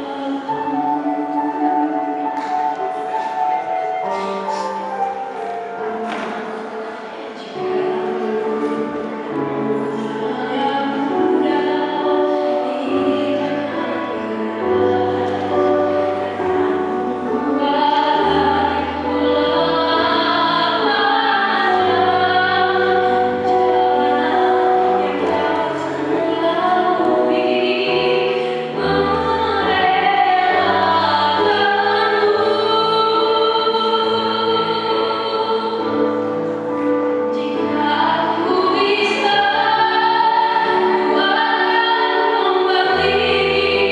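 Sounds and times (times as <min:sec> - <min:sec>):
choir singing in harmony: 0:04.0 - 0:43.9.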